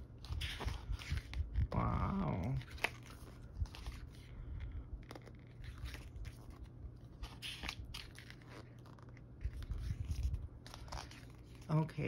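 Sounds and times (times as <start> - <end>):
low steady hum: 0.0 - 12.0
pages turning: 0.0 - 12.0.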